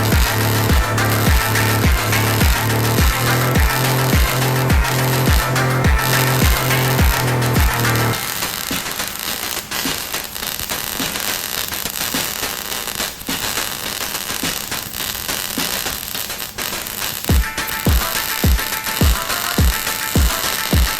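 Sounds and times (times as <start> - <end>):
electric arc welding crackle: 0.0 - 20.9.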